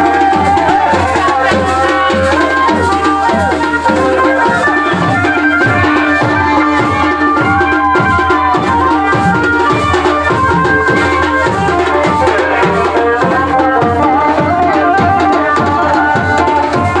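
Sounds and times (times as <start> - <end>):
drums beating steady rhythm: 0.0 - 17.0
sliding melody line: 0.0 - 17.0.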